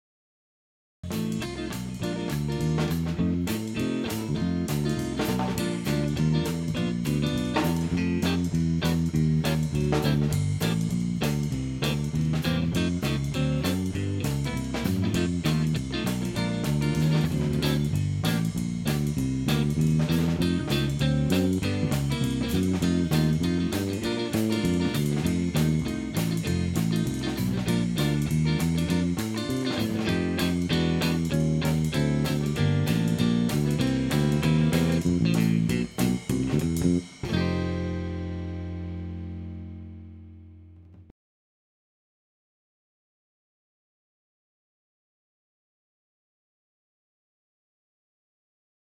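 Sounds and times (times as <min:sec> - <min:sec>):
guitar-led music with beat: 0:01.0 - 0:41.0.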